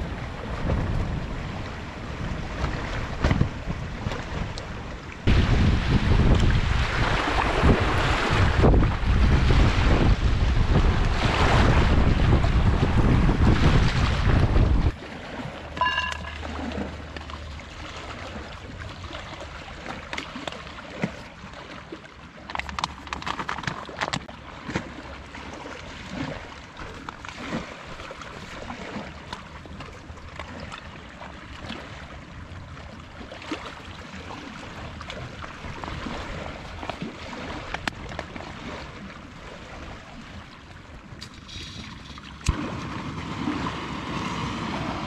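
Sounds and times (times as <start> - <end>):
lapping lake water: 0.0 - 45.0
wind: 0.0 - 45.0.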